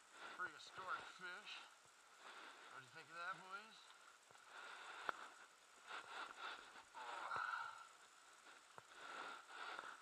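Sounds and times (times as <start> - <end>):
soft breaths: 0.0 - 10.0.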